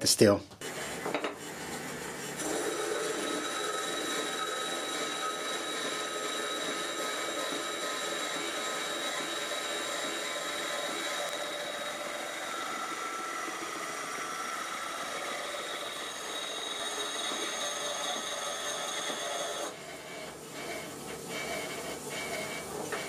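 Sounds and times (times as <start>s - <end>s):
band saw cutting steel: 0.6s - 23.0s.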